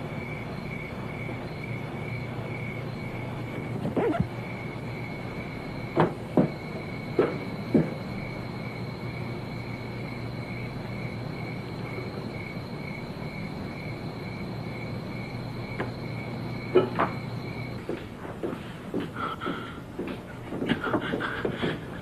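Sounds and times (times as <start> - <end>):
crickets chirping: 0.0 - 18.6.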